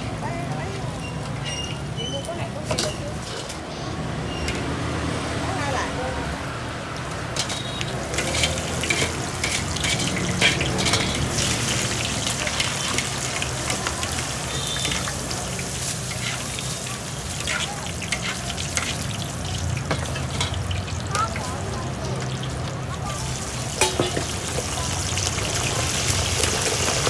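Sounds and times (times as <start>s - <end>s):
chicken skin deep-frying in oil: 0.0s - 27.0s.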